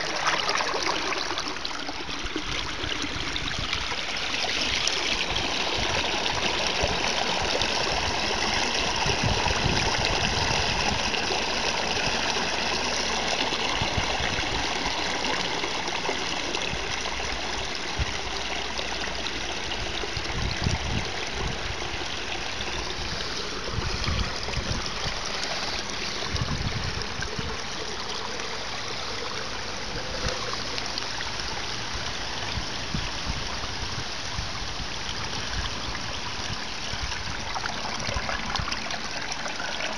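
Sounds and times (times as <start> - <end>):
water rushing down a drain: 0.0 - 39.9.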